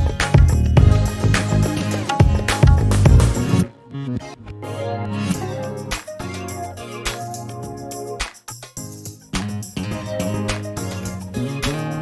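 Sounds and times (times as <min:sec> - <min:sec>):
music with steady beat: 0:00.0 - 0:03.8, 0:04.4 - 0:12.0.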